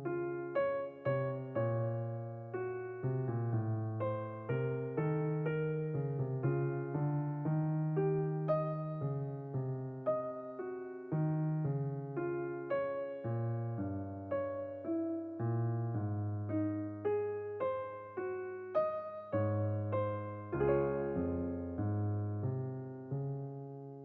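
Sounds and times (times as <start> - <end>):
electric piano melody: 0.0 - 24.0.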